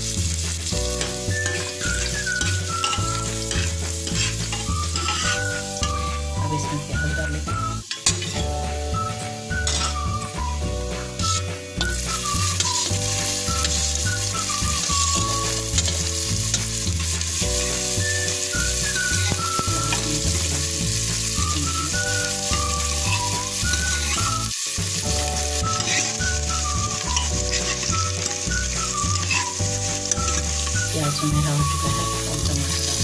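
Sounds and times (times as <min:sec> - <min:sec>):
instrumental background music: 0:00.0 - 0:33.0
onion sizzling in hot oil: 0:00.0 - 0:33.0
ladle stirring: 0:00.9 - 0:06.3, 0:07.8 - 0:08.5, 0:09.5 - 0:10.5, 0:11.2 - 0:31.5.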